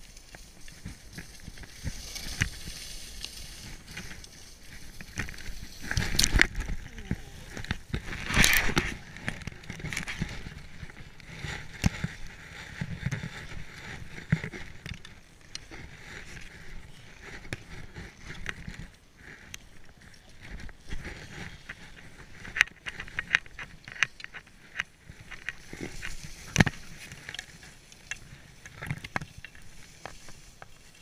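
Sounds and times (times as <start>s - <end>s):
skis scraping over snow: 0.0s - 31.0s.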